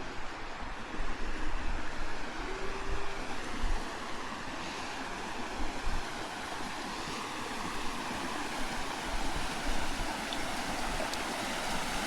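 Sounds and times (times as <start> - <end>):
running water rushing: 2.2 - 12.0.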